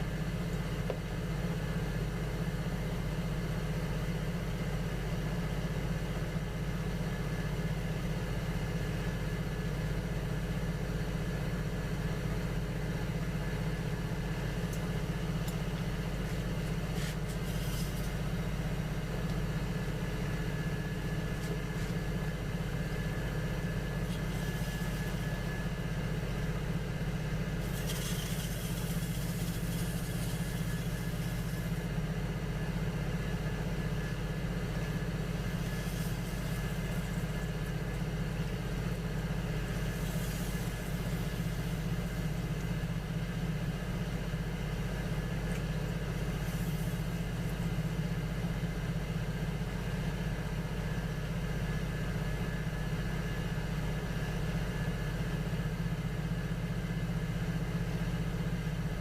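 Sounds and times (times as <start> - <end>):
potter's wheel motor hum: 0.0 - 59.0.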